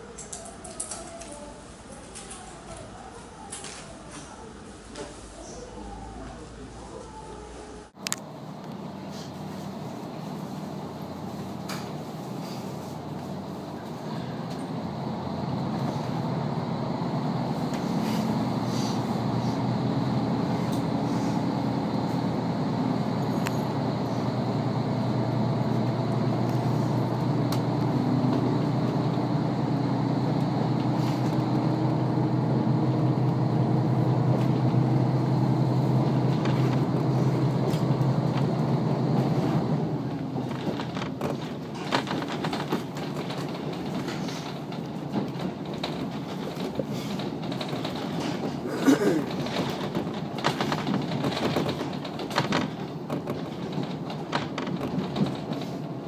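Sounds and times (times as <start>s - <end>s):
train running and motor: 6.9s - 56.0s.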